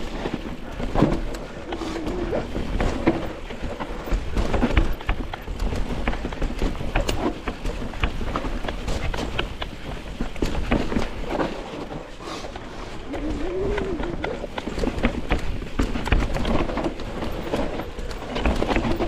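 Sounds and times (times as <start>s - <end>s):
bike knocking and rattling: 0.0s - 19.0s
bike tyres rumbling on dirt: 0.0s - 19.0s.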